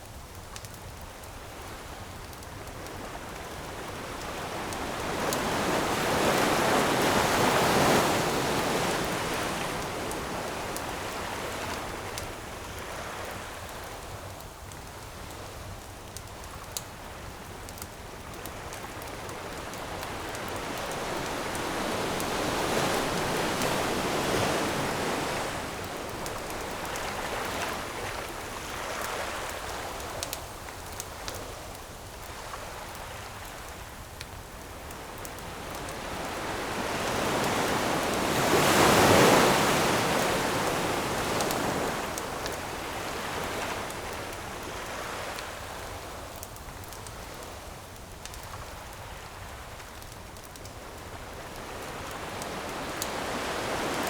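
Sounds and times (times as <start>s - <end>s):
campfire crackles: 0.0s - 54.0s
ocean waves washing ashore: 1.2s - 54.0s.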